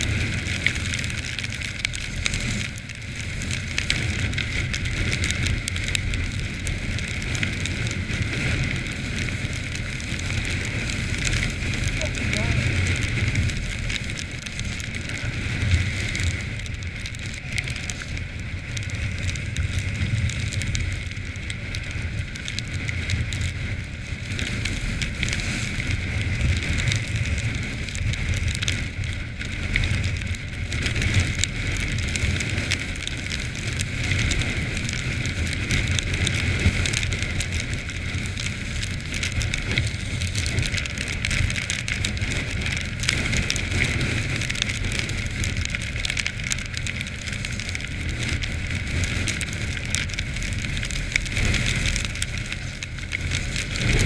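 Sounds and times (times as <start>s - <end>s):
quad bike engine rumble: 0.0s - 54.0s
wind rush on microphone: 0.0s - 54.0s.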